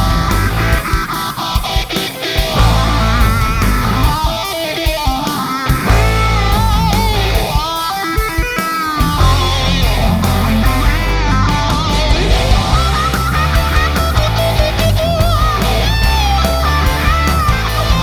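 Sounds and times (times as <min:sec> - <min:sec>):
bass guitar: 0:00.0 - 0:01.6, 0:02.2 - 0:07.8, 0:08.9 - 0:18.0
chugging rhythm guitar: 0:00.0 - 0:18.0
distorted lead electric guitar: 0:00.0 - 0:18.0
drums: 0:00.0 - 0:18.0.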